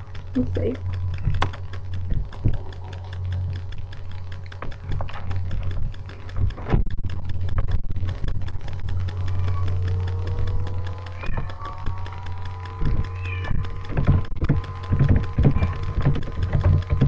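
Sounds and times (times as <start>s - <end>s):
steady low hum: 0.0s - 17.0s
typing on a computer keyboard: 0.0s - 17.0s.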